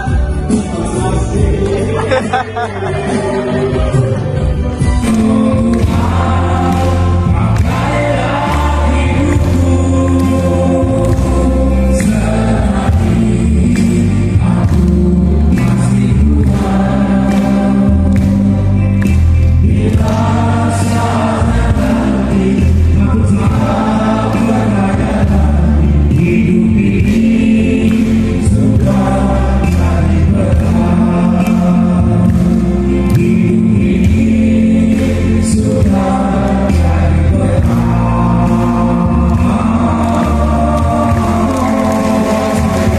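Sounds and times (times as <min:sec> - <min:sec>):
man singing into microphone: 0:00.0 - 0:19.0, 0:19.6 - 0:42.9
amplified backing music with bass: 0:00.0 - 0:42.9.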